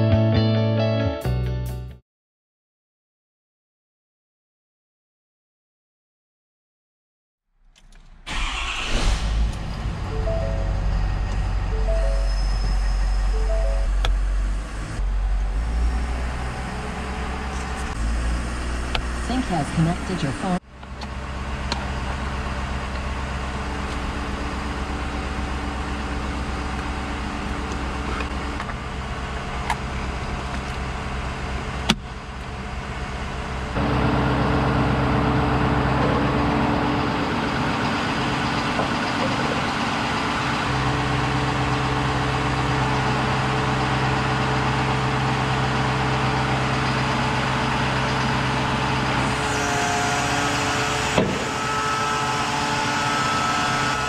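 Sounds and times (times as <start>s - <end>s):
truck engine idling: 7.8s - 54.0s.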